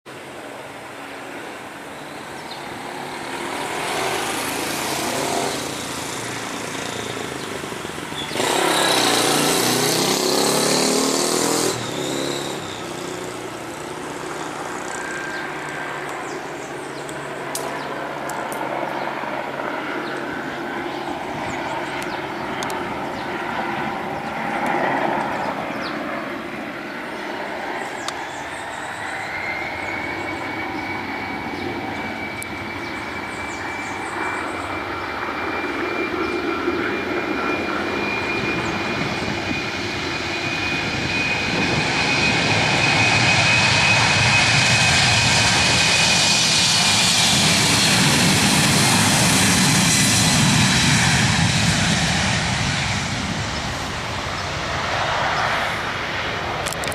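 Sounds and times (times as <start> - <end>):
high-pitched engine whine: 0.1 - 56.9
jet engines spooling up: 0.1 - 56.9.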